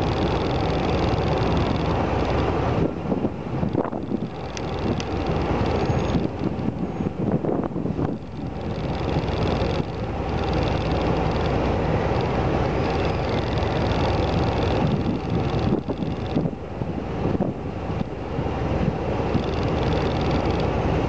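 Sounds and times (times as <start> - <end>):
vehicle rumbling in motion: 0.0 - 21.0
wind buffeting microphone: 0.0 - 21.0.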